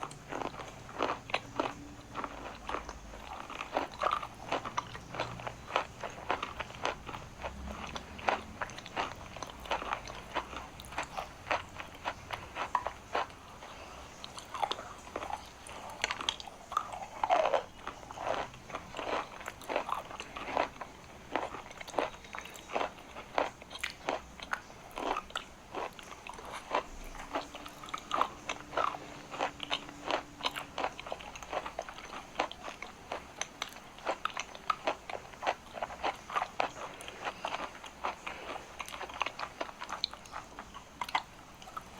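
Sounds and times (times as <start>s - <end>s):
chalk crunching while chewing: 0.0s - 41.9s.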